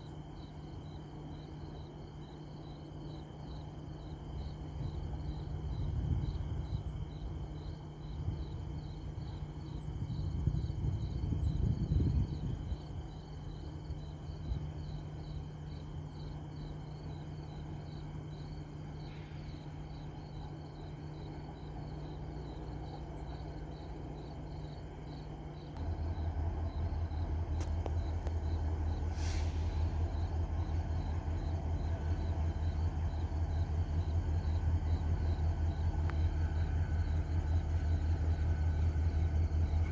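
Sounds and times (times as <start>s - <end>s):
crickets chirping: 0.0s - 39.9s
deep engine drone: 0.0s - 39.9s
low hum of train: 0.0s - 39.9s.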